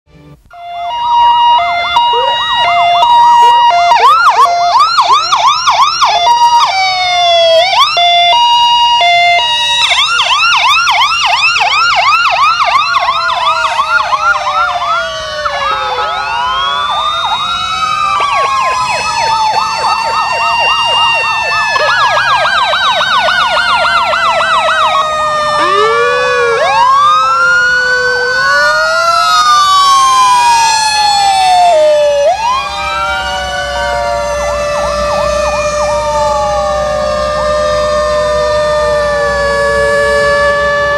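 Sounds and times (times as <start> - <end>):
fire truck sirens: 0.4 - 40.9.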